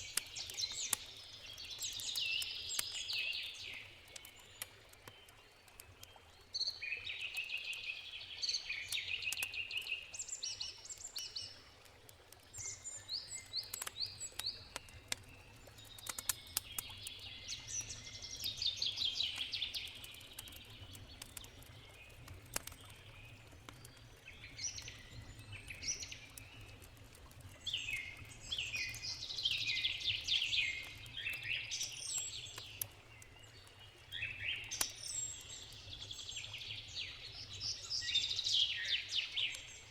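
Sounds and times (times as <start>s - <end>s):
campfire crackling: 0.0s - 7.8s, 8.4s - 39.9s.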